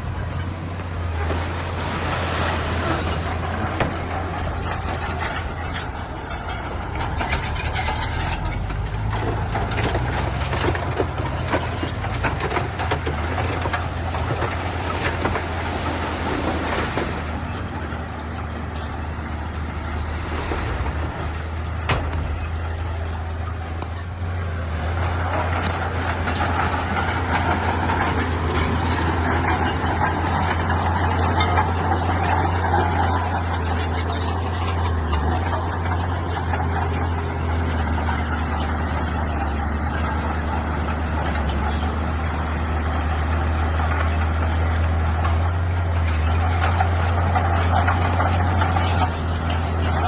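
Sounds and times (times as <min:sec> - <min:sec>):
bulldozer diesel engine droning: 0:00.0 - 0:50.0.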